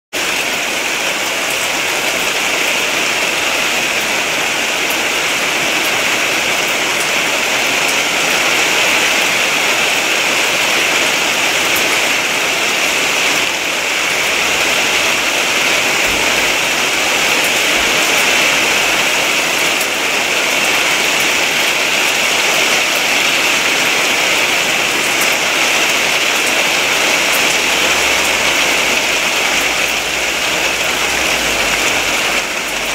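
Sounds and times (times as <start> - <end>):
raindrops ticking: 0.2 - 32.9
torrential rain hissing: 0.2 - 32.9.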